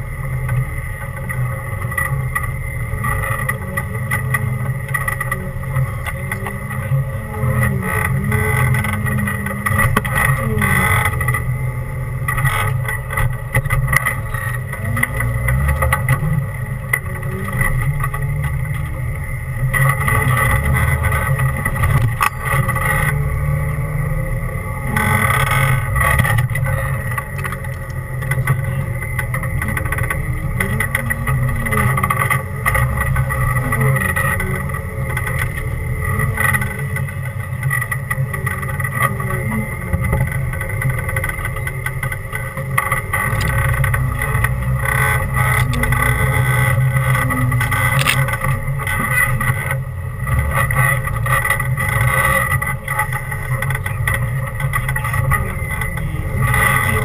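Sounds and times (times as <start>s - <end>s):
off-road engine at low revs: 0.0s - 57.0s.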